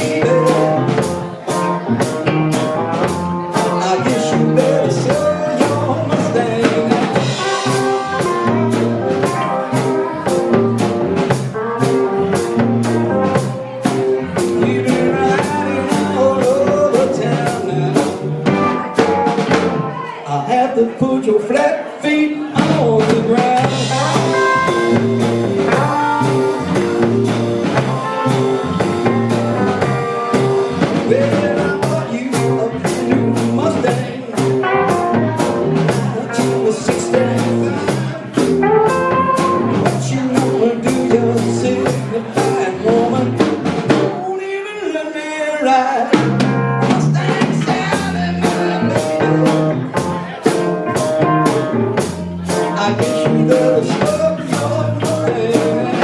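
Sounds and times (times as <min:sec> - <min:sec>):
live rock and roll band: 0:00.0 - 0:56.0.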